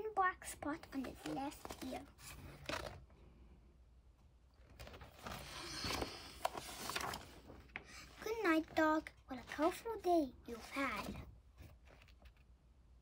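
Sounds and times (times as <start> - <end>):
book pages rustling: 0.6 - 3.1, 4.6 - 12.5.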